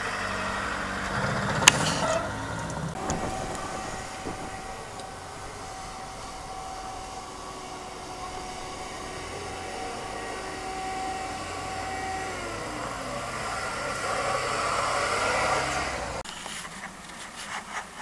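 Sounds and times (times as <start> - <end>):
off-road vehicle engine running: 0.0 - 18.0.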